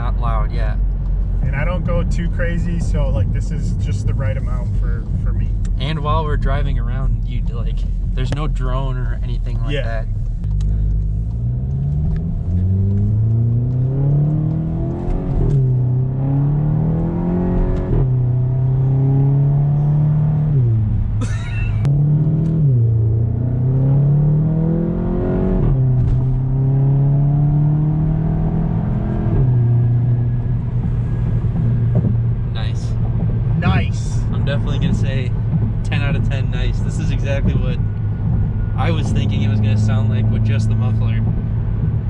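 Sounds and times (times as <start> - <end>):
car exhaust accelerating through gears: 0.0 - 42.0.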